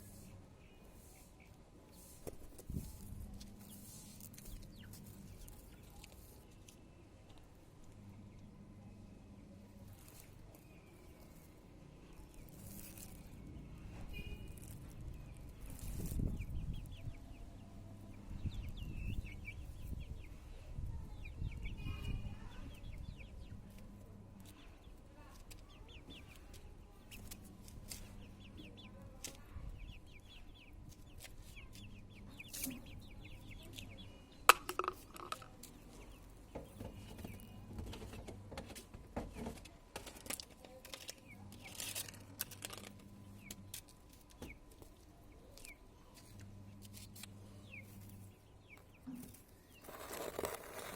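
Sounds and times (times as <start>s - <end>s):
chickens clucking and peeping: 0.0s - 50.0s
faint low hum: 0.0s - 50.9s.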